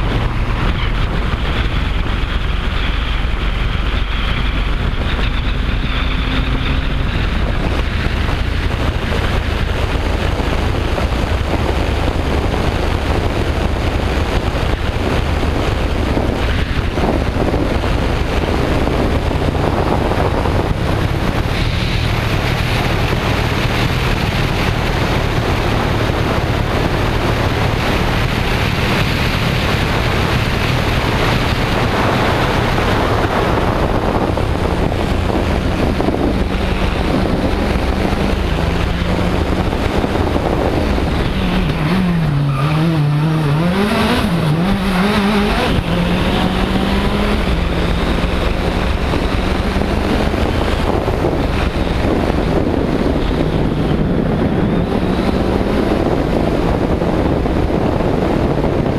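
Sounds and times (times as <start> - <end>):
car engine running hard: 0.0 - 58.9
wind and road noise: 0.0 - 58.9.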